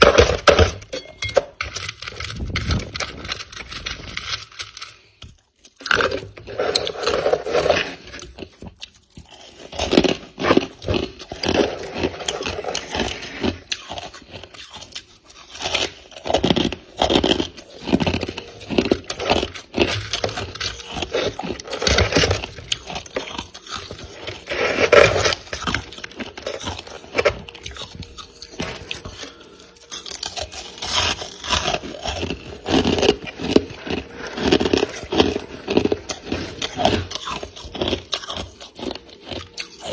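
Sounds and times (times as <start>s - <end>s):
frost being bitten and chewed: 1.7s - 39.9s.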